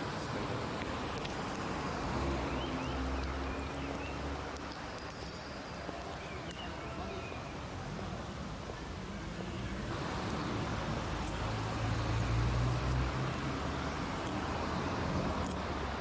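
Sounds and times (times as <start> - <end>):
low rumble of distant traffic: 0.0 - 16.0.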